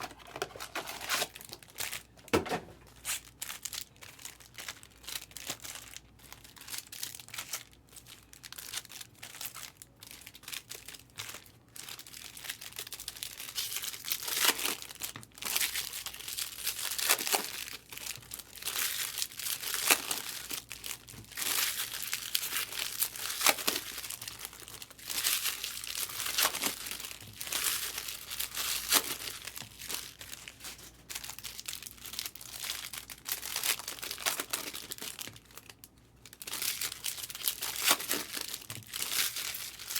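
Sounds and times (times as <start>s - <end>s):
foil wrappers crinkling and tearing: 0.0s - 39.9s.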